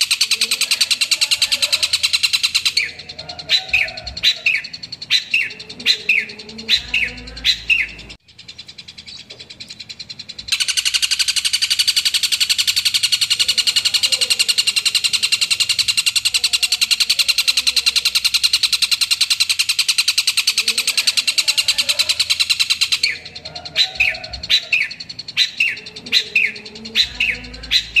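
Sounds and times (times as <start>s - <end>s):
bird harsh rattling buzz: 0.0s - 9.0s, 10.0s - 28.0s
bird sharp falling calls: 0.0s - 28.0s.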